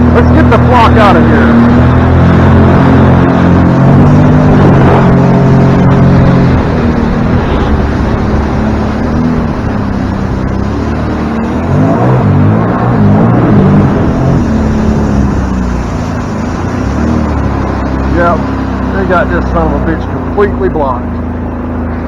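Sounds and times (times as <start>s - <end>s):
wind and water rushing: 0.0s - 20.9s
boat engine running: 0.0s - 22.0s.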